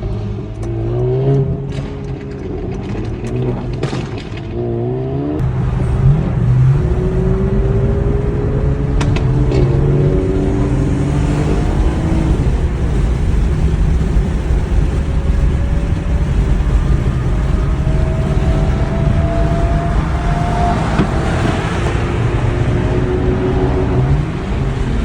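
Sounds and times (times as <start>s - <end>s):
car engines rumbling: 0.0s - 25.0s.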